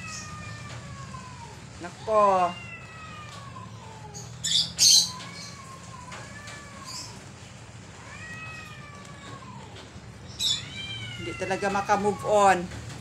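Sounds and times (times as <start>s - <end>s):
cat yowling: 0.0s - 7.3s, 7.9s - 12.7s
cats growling: 0.0s - 12.6s.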